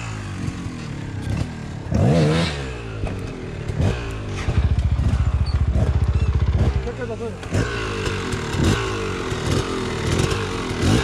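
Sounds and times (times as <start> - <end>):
dirt bike engines idling: 0.0 - 11.0.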